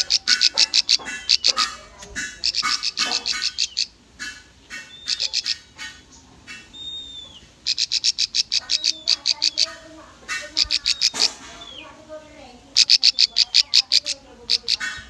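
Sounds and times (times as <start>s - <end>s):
bird chattering trills: 0.0s - 15.0s.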